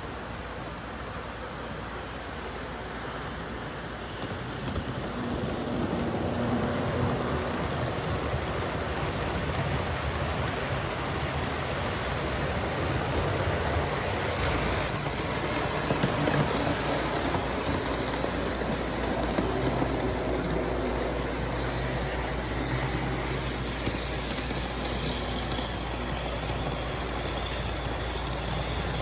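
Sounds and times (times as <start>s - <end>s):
model train wheels rolling: 0.0s - 29.0s.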